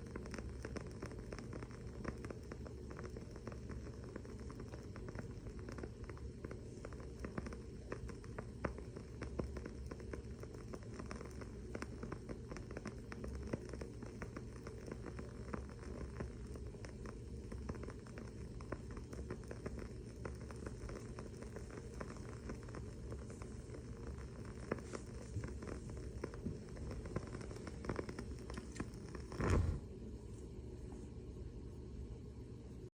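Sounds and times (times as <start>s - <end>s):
candle wick crackling: 0.0s - 31.1s
faint steady hum: 0.0s - 32.9s.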